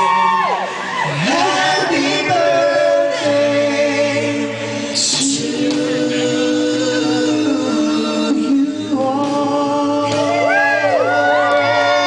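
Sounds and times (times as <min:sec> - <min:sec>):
male vocal group singing in harmony: 0:00.0 - 0:12.0.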